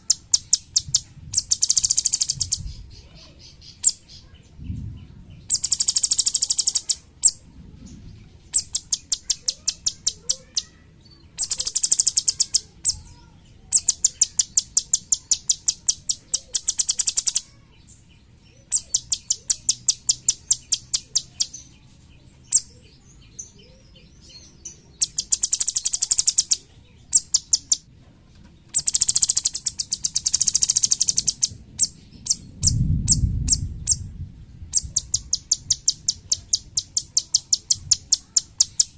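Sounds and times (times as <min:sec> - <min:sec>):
bird singing rapid trills: 0:00.0 - 0:27.9, 0:28.7 - 0:38.9.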